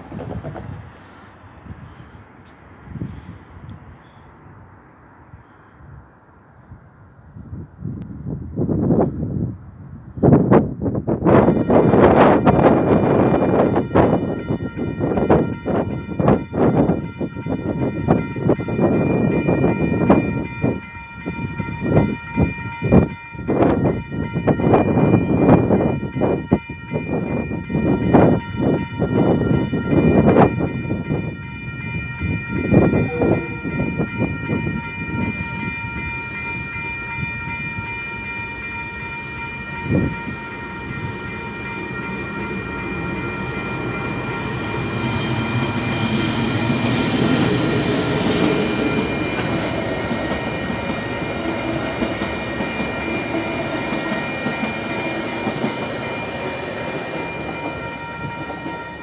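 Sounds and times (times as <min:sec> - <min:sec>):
level crossing warning bells: 0:11.0 - 0:59.0.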